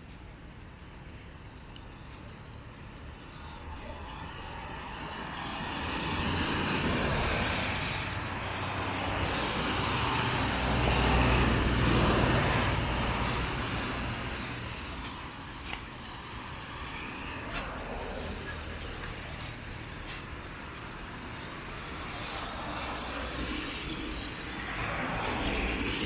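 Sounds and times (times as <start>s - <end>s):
vehicle passing: 3.5s - 26.0s.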